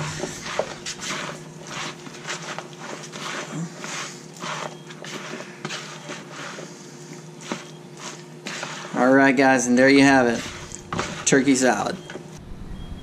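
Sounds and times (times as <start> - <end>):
spatula squishing salad in bowl: 0.0 - 12.2.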